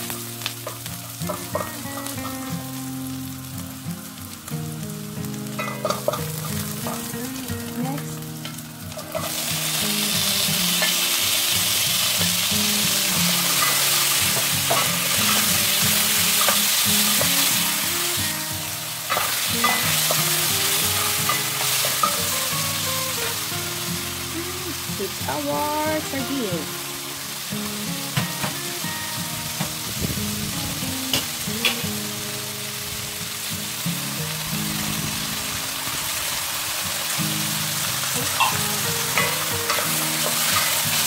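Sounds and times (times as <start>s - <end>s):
food sizzling in hot oil: 0.0s - 41.0s
soft background music: 0.0s - 41.0s.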